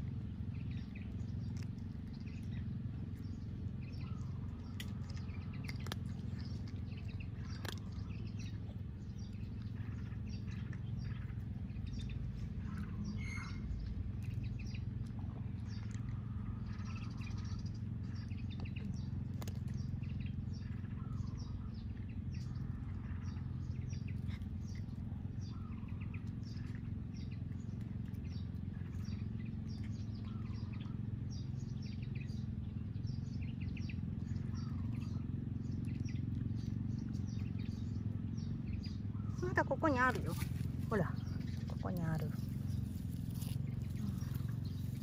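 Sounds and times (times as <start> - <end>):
low background rumble: 0.0 - 45.0
small birds chirping: 0.0 - 45.0.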